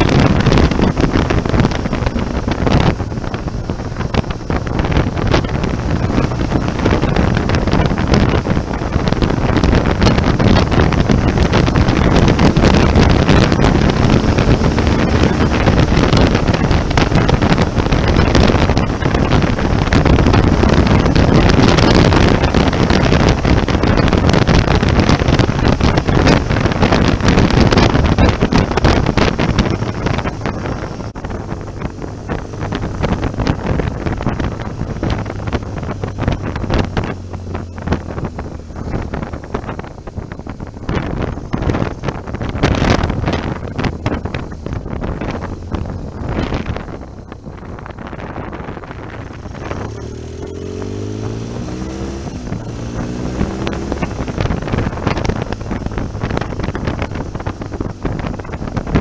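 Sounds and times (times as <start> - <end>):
motorcycle engine and tyre noise: 0.0 - 59.0
wind buffeting microphone: 0.0 - 59.0.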